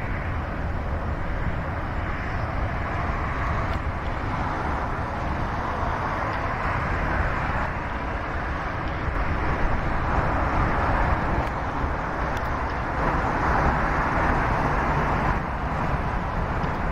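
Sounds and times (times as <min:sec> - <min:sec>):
vehicle rumble and roar: 0:00.0 - 0:16.9.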